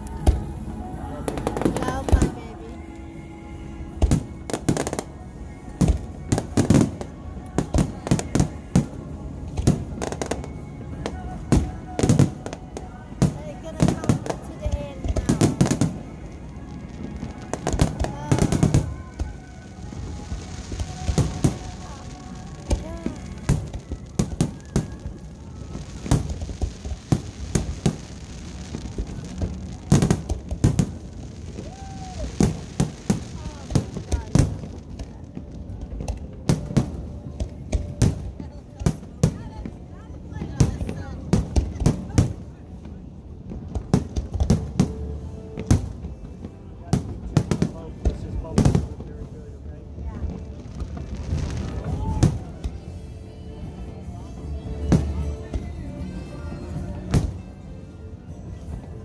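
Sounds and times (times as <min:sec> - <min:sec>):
fireworks bangs: 0:00.0 - 0:49.3, 0:50.0 - 0:57.6.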